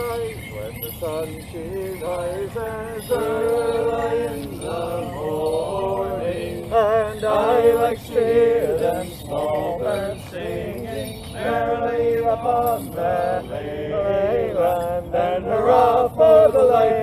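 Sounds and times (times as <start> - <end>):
men singing unaccompanied folk song: 0.0 - 17.0.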